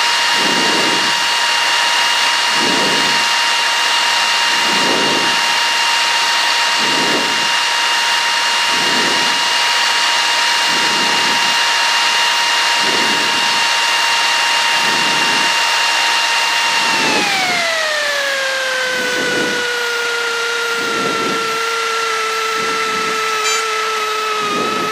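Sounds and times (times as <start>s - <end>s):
light aircraft engine and propeller: 0.0s - 24.9s.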